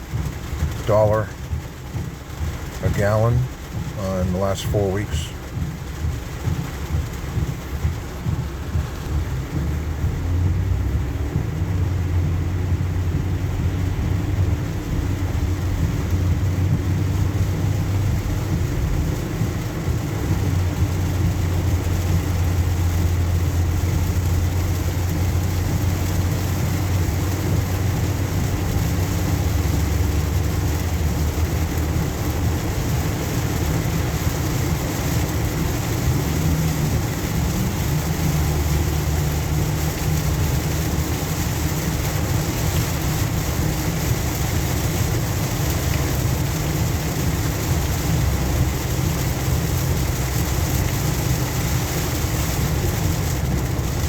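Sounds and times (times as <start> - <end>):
car engine and road hum: 0.0 - 54.0
rain: 0.0 - 54.0
tyres hissing on wet pavement: 0.0 - 54.0.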